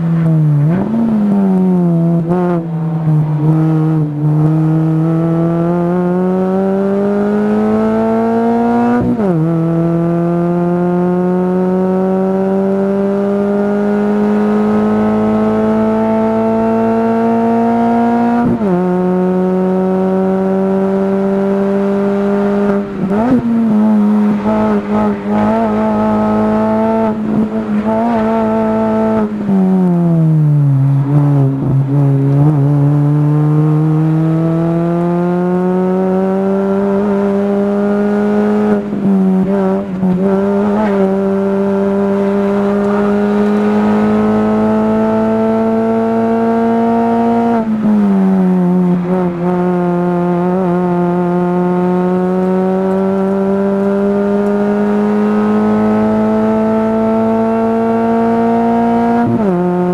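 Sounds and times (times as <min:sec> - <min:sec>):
race car engine running hard: 0:00.0 - 0:29.6, 0:30.9 - 0:59.9.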